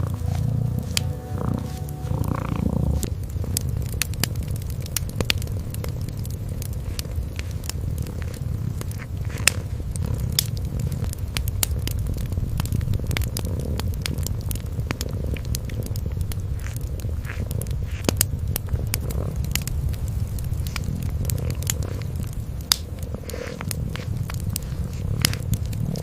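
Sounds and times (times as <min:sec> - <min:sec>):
kitten purring: 0:00.0 - 0:26.0
wood fire crackling: 0:00.0 - 0:26.0
sharp fire pops: 0:03.0 - 0:26.0.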